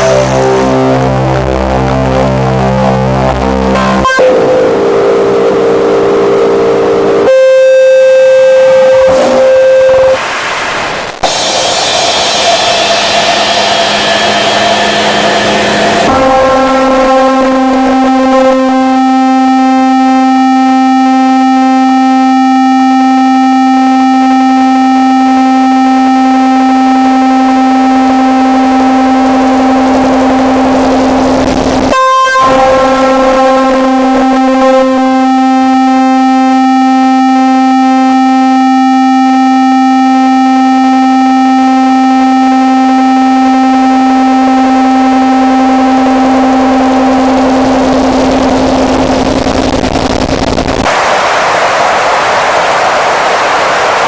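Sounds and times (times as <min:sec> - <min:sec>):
distorted synthesizer drone: 0:00.0 - 0:54.0.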